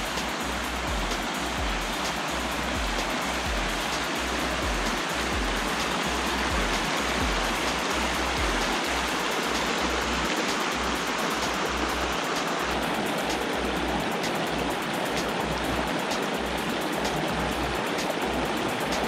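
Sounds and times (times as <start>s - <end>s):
music bass notes pulsing: 0.0s - 19.0s
stream rushing over rocks: 0.0s - 19.0s.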